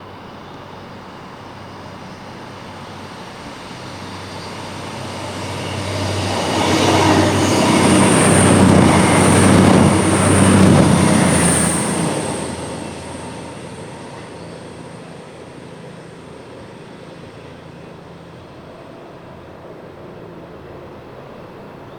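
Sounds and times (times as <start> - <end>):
diesel locomotive passing: 0.0 - 21.9.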